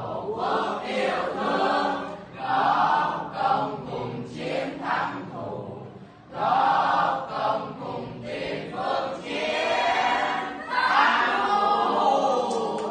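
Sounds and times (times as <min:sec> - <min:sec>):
students singing in chorus: 0:00.0 - 0:12.9.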